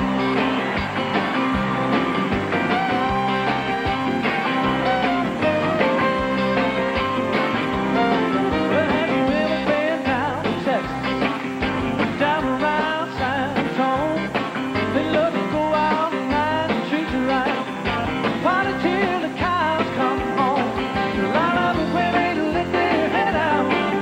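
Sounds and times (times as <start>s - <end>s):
country band playing live: 0.0s - 24.0s
guitar: 0.0s - 24.0s.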